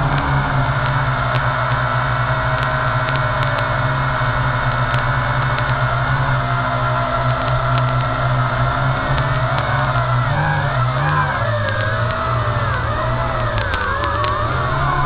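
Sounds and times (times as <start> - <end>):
quadcopter motors droning: 0.0 - 15.0.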